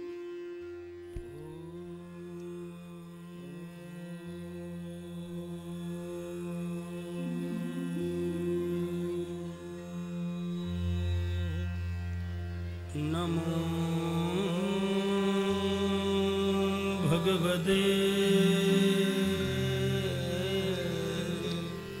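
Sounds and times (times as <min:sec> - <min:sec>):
person singing long notes: 0:01.1 - 0:12.2, 0:12.9 - 0:22.0
drone chords over bass: 0:01.7 - 0:22.0.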